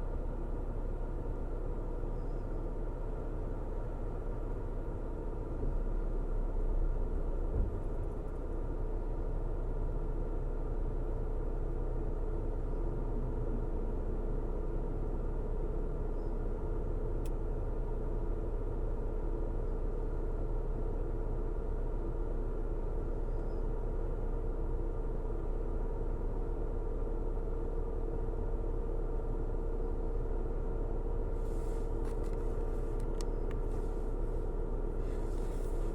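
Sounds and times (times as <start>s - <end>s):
car engine hum: 0.0s - 35.9s
road and tyre rumble: 0.0s - 35.9s.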